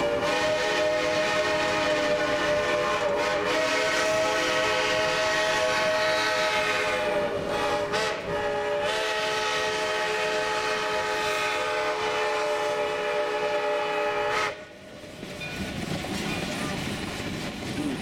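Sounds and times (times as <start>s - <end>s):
steam locomotive chime whistle: 0.0s - 14.7s
train running noise: 0.0s - 18.0s.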